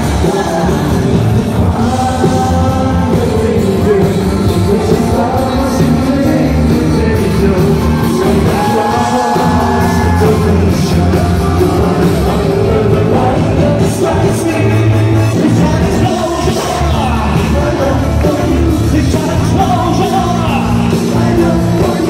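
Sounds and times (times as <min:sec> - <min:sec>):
live pop band: 0:00.0 - 0:22.0
men singing: 0:00.0 - 0:22.0.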